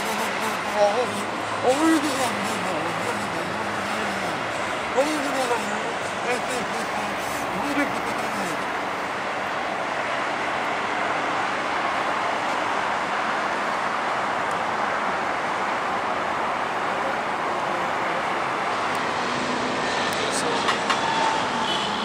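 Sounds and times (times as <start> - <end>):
jet engines steady noise: 0.0 - 22.0.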